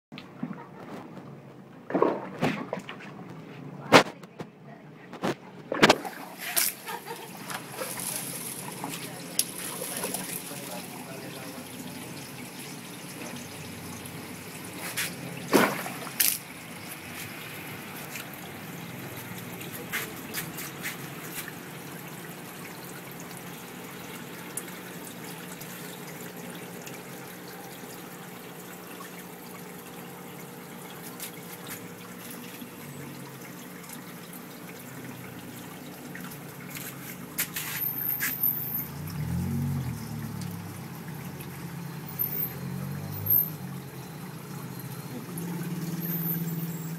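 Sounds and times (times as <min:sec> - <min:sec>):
water trickling and dripping: 0:05.9 - 0:46.9.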